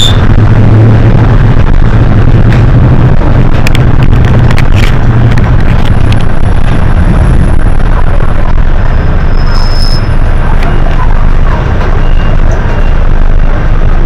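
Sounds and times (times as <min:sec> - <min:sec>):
bus engine and road drone: 0:00.0 - 0:14.0.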